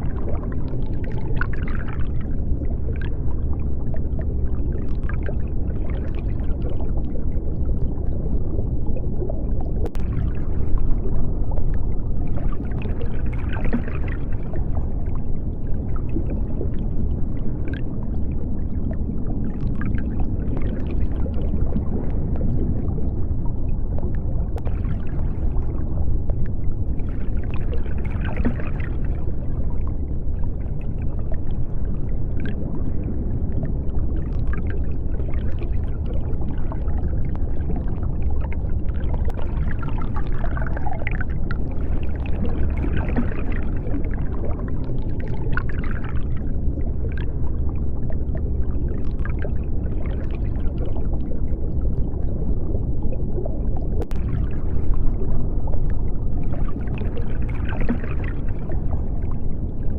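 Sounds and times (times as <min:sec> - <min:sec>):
deep underwater rumble: 0:00.0 - 0:59.9
faint crackles and clicks: 0:00.0 - 0:59.9.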